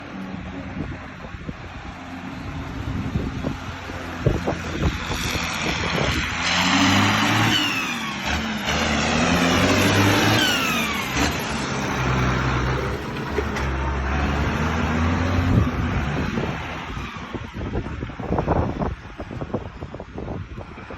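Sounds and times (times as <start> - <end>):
tractor diesel engine revving: 0.0 - 17.8.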